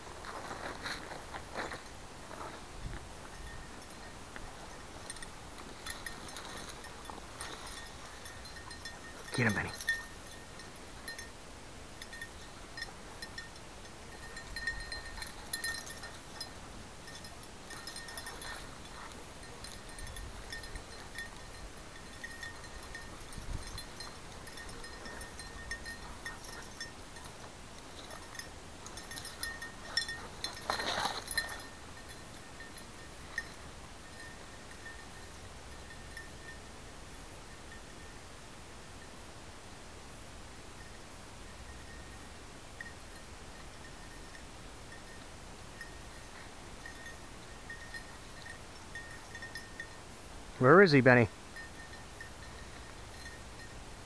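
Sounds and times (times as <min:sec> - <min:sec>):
faint metallic tinkling: 0:00.0 - 0:54.0.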